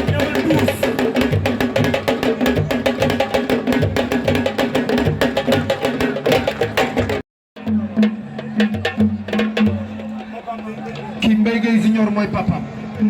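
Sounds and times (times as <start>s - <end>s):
percussion music: 0.0s - 12.5s.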